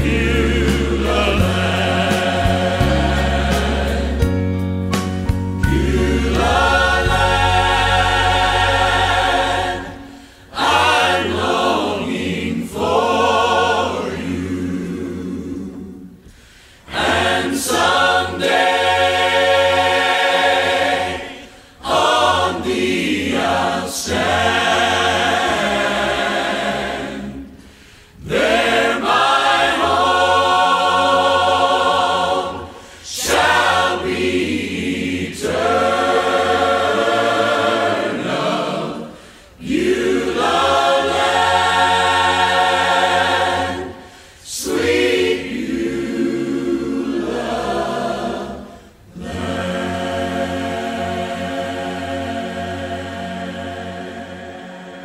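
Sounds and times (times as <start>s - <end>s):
choir singing: 0.0s - 4.6s, 5.6s - 55.0s.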